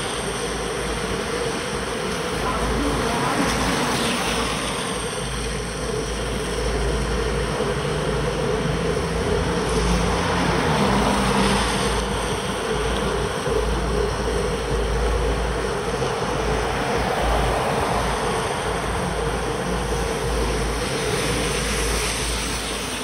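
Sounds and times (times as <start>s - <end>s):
low uneven buffeting: 0.0s - 23.0s
tyre hiss on wet road: 0.0s - 23.0s
wind rushing over microphone: 0.0s - 23.0s.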